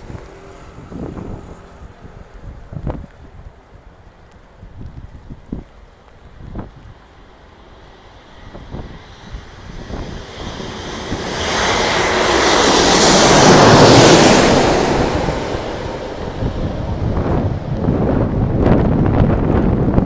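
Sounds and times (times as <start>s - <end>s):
jet airliner passing: 0.0s - 4.3s, 6.7s - 20.0s
wind buffeting microphone: 0.0s - 20.0s.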